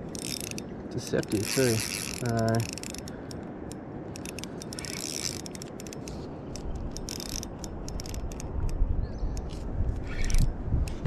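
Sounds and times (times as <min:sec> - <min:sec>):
fishing reel ratcheting clicks: 0:00.0 - 0:08.8, 0:09.4 - 0:10.5.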